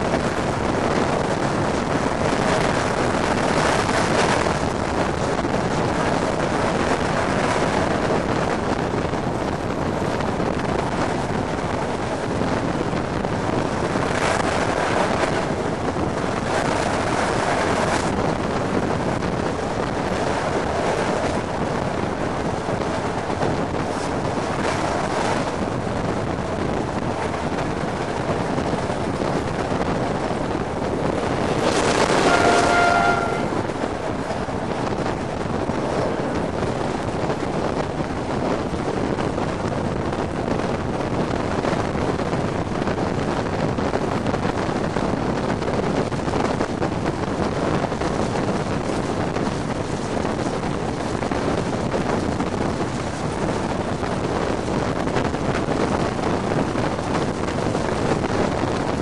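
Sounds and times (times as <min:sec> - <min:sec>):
train running noise: 0:00.0 - 0:59.0
wind buffeting microphone: 0:00.0 - 0:59.0.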